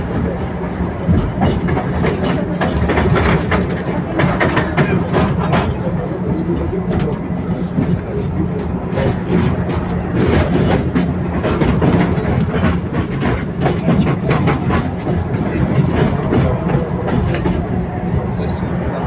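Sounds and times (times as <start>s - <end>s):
tram wheels clattering on rails: 0.0s - 19.0s.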